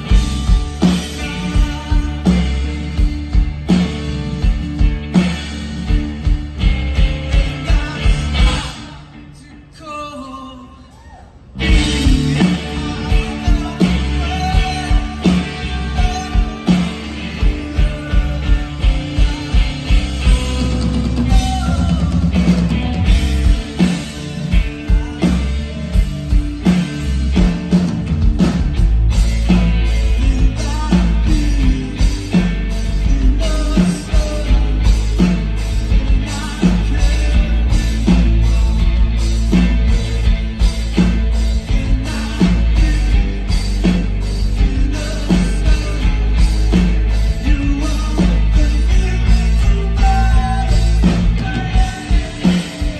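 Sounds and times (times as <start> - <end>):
drum kit beat: 0.0 - 9.2, 11.6 - 52.9
electric guitars: 0.0 - 9.7, 11.5 - 52.9
bass guitar: 0.0 - 10.2, 11.0 - 52.9
live rock band playing: 0.0 - 10.4, 11.4 - 52.9.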